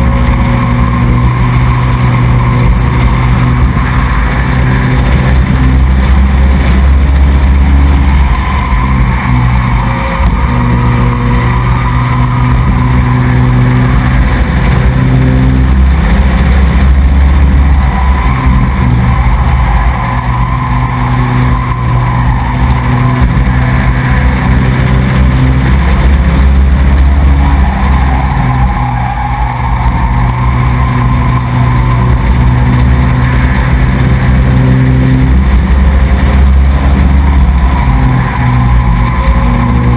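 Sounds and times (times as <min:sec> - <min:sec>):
racing truck engine revving: 0:00.0 - 0:39.9.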